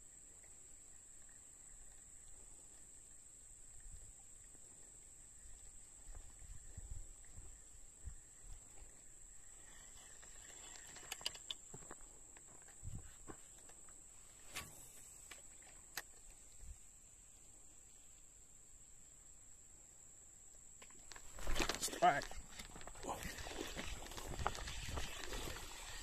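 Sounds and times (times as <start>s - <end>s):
faint insect chorus: 0.0s - 26.0s.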